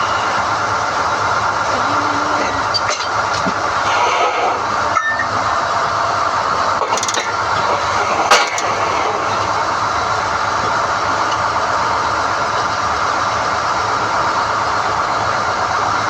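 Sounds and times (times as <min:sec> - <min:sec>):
drilling rig running: 0:00.0 - 0:16.0.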